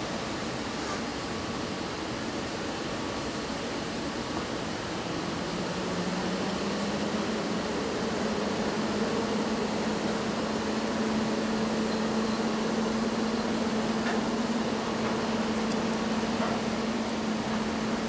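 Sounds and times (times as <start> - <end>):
electric locomotive running: 1.5 - 18.0.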